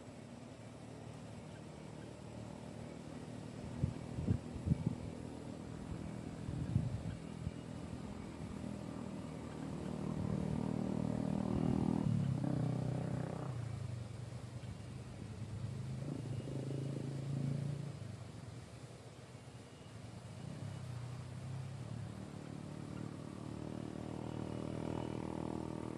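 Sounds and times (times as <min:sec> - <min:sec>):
vehicle engine running: 0:00.0 - 0:18.9, 0:19.6 - 0:25.9.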